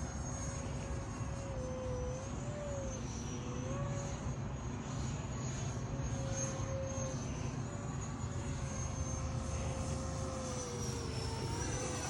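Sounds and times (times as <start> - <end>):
rc jet fans whining: 0.0 - 12.0.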